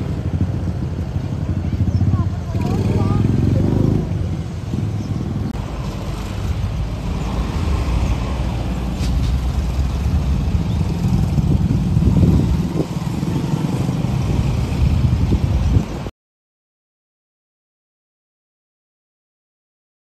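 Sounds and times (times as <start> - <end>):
road traffic rumble: 0.0 - 16.1.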